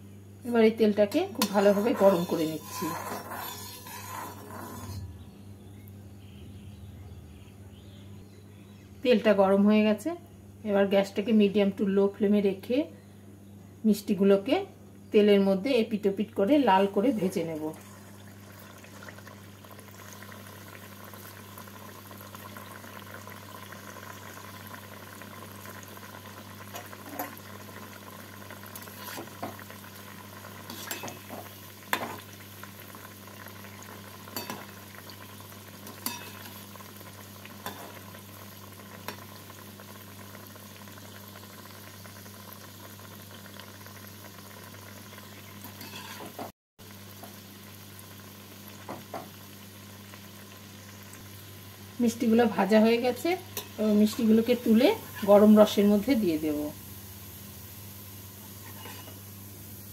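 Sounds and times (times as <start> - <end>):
sweets deep-frying in oil: 0.0 - 5.2, 13.9 - 59.9.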